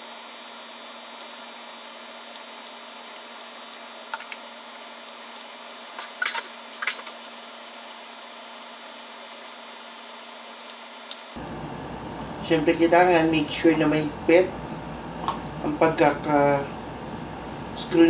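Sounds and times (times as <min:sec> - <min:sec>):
background hiss and hum: 0:00.0 - 0:18.0.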